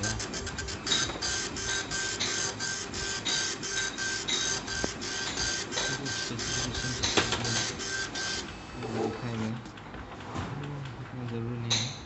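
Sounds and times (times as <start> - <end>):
dot matrix printer printing: 0.0 - 11.9.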